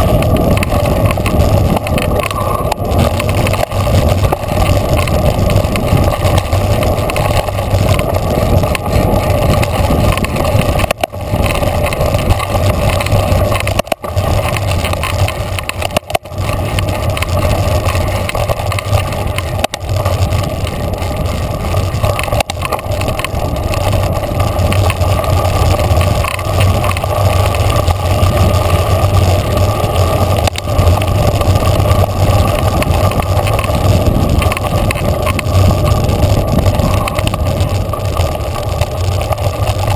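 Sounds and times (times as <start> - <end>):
bike tyre rumble on dirt: 0.0 - 39.9
wind rushing over microphone: 0.0 - 39.9.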